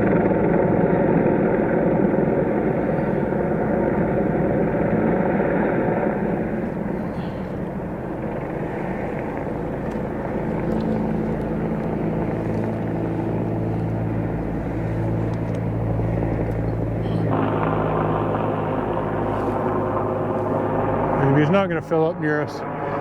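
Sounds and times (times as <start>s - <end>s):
engine drone: 0.0s - 23.0s
low steady hum: 0.0s - 23.0s.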